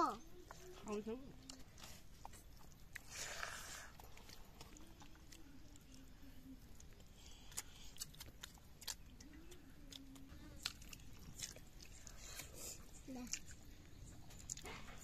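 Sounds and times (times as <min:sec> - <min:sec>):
biting and chewing: 0:00.3 - 0:15.0.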